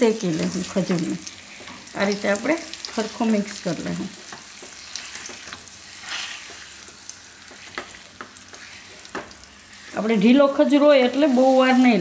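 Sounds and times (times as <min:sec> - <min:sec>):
dates frying in ghee: 0:00.0 - 0:12.0
spatula stirring and scraping: 0:00.3 - 0:12.0.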